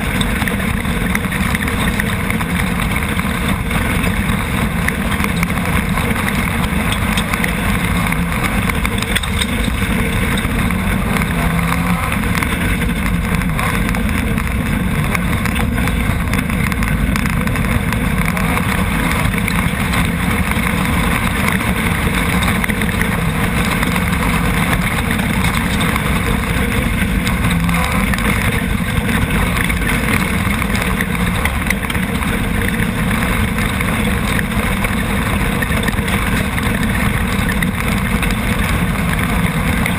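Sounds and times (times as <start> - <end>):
racing buggy engine running hard: 0.0 - 39.9
wind and road noise: 0.0 - 39.9.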